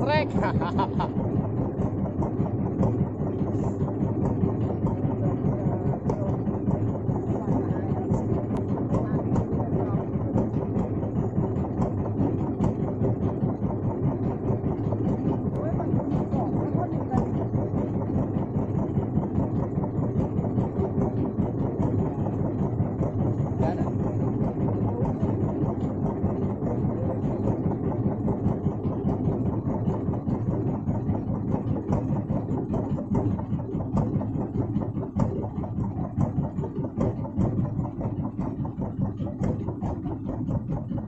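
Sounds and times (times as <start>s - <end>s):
boat engine idling: 0.0s - 41.0s.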